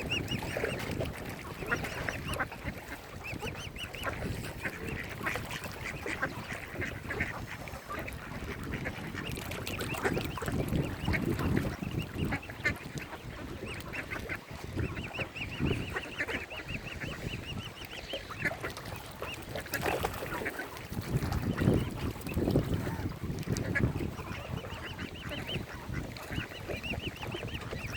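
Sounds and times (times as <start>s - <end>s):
swans and ducks calling: 0.0s - 27.9s.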